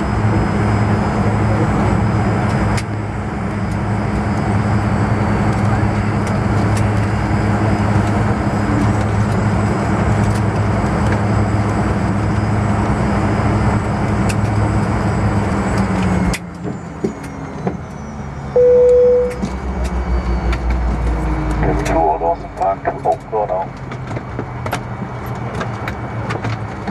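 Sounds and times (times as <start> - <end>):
airliner cabin engine drone: 0.0 - 26.9.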